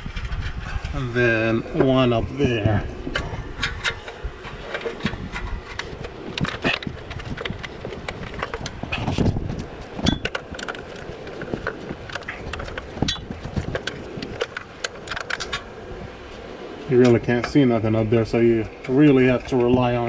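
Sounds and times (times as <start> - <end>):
rustling: 0.0 - 20.0.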